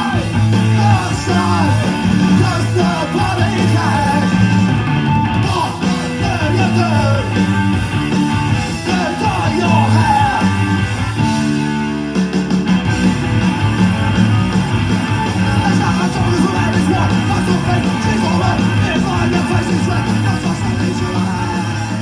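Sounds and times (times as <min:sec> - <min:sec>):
punk rock song with guitar: 0:00.0 - 0:22.0.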